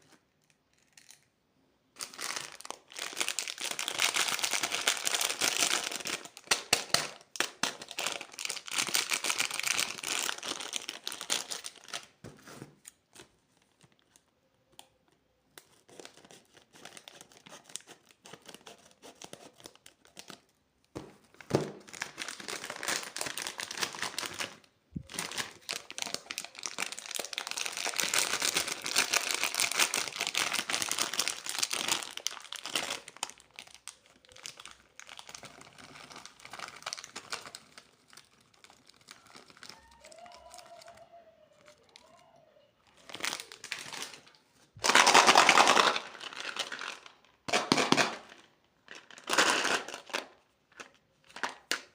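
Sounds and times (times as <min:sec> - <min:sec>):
candy wrappers crinkling and tearing: 0:01.9 - 0:20.6, 0:21.4 - 0:42.2, 0:42.9 - 0:51.9.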